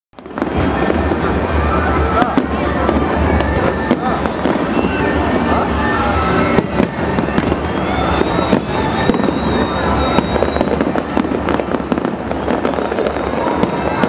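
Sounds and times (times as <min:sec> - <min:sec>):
fireworks bangs and crackling: 0:00.2 - 0:14.0.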